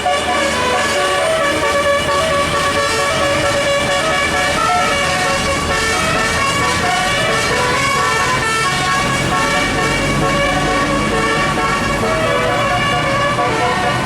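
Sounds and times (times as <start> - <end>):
multi-tone air horn tune: 0.0 - 14.0.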